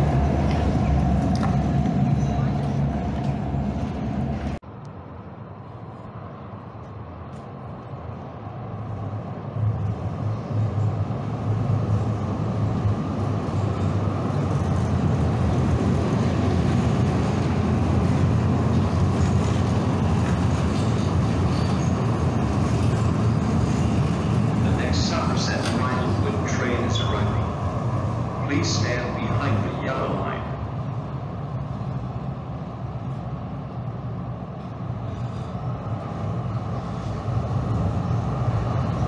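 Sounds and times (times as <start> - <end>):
train car rumble: 0.0 - 39.0.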